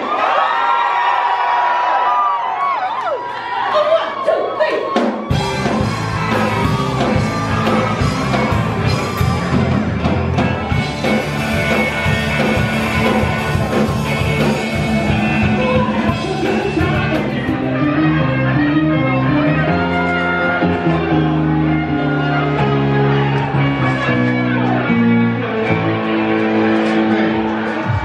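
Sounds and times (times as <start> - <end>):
live rock band: 4.9 - 28.0.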